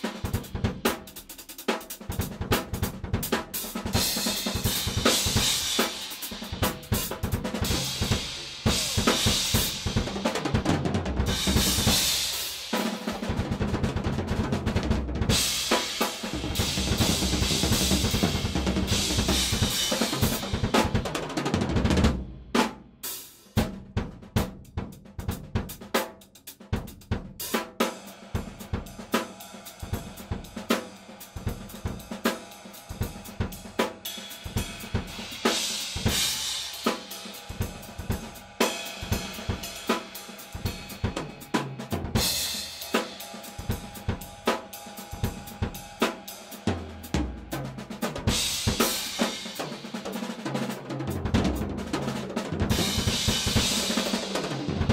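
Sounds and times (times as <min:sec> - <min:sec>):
drum and cymbal groove: 0:00.0 - 0:54.9.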